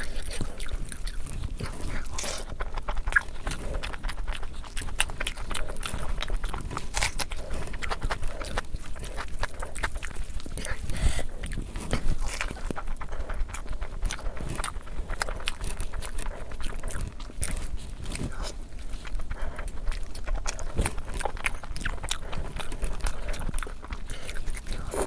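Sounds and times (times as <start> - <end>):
wet chewing and lip-smacking: 0.0 - 25.0.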